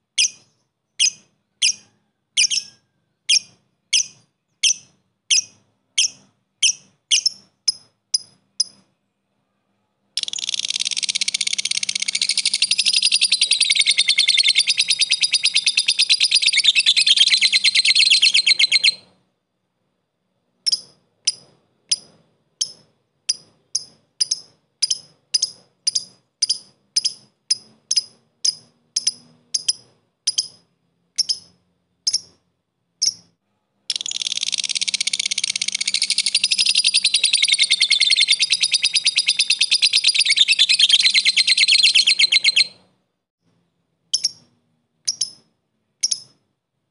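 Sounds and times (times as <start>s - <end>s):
lovebird chattering trill: 0.2s - 8.9s, 10.2s - 19.1s, 20.6s - 32.4s, 33.0s - 33.3s, 33.9s - 42.8s, 44.1s - 46.4s.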